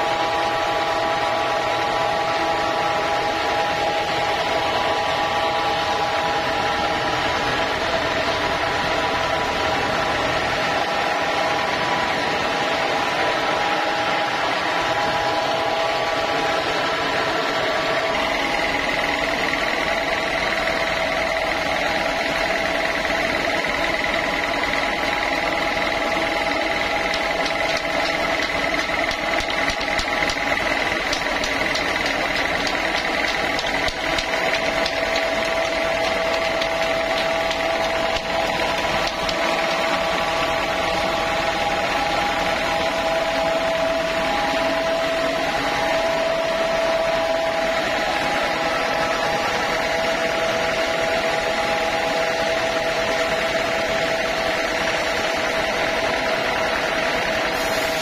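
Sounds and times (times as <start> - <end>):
band sawmill whining: 0.0 - 58.0.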